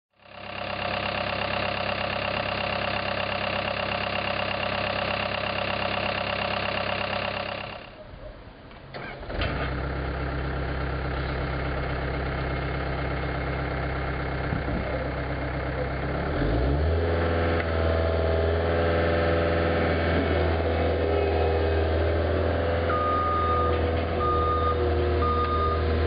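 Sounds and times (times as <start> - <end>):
diesel engine running: 0.2 - 8.1, 8.9 - 26.0.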